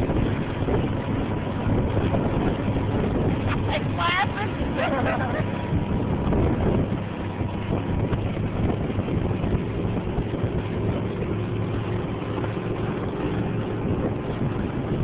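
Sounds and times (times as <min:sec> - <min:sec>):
motorboat engine running: 0:00.0 - 0:15.0
wake water rushing: 0:00.0 - 0:15.0
wind rushing: 0:00.0 - 0:15.0.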